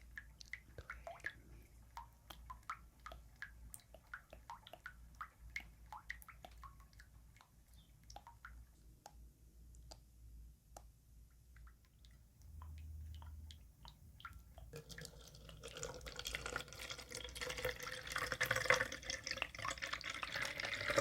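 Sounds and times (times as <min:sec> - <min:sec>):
soft wet squishes: 0:00.0 - 0:17.4
water drips: 0:00.0 - 0:21.0.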